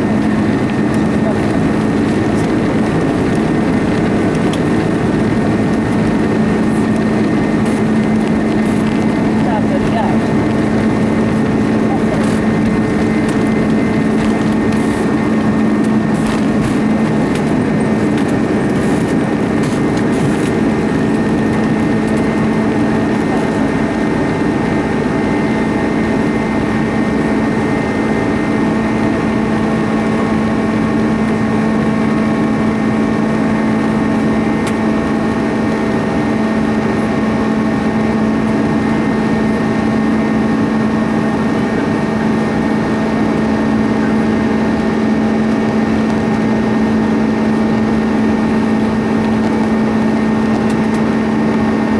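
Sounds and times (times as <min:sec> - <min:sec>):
jet engines droning in cabin: 0:00.0 - 0:51.9.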